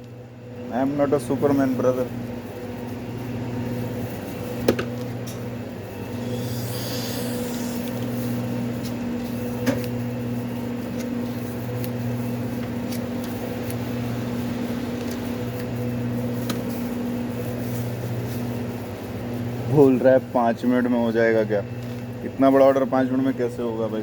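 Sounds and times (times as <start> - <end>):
electrical hum of kitchen equipment: 0.0 - 24.0.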